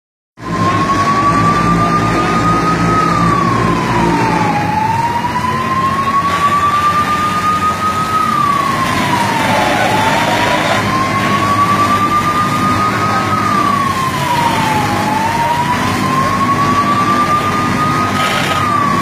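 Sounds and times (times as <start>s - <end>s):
siren wailing: 0.4s - 19.0s.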